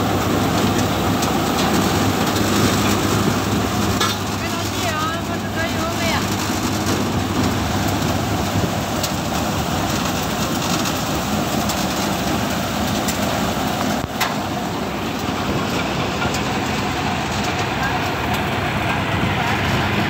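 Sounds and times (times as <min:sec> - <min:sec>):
thresher machine running: 0:00.0 - 0:20.0.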